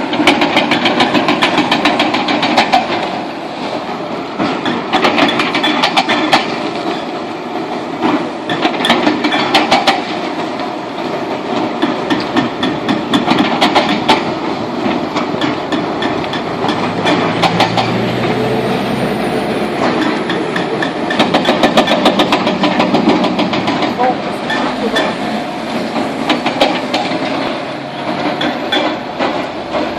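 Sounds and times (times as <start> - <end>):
excavator engine running: 0.0 - 29.9
rapid knocking and clattering: 0.1 - 3.2, 4.4 - 7.0, 8.0 - 18.3, 19.8 - 29.9.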